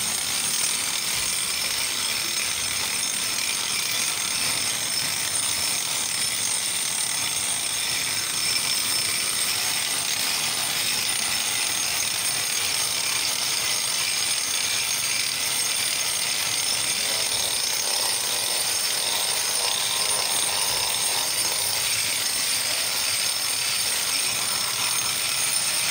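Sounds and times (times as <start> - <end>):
angle grinder grinding concrete: 0.0 - 25.9.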